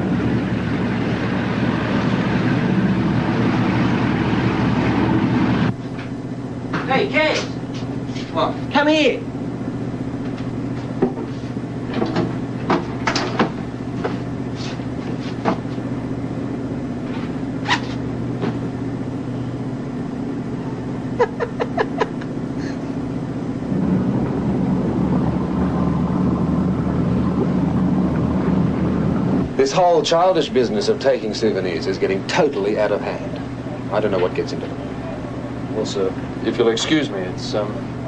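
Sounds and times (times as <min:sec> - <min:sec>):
boat engine hum: 0:00.0 - 0:38.0.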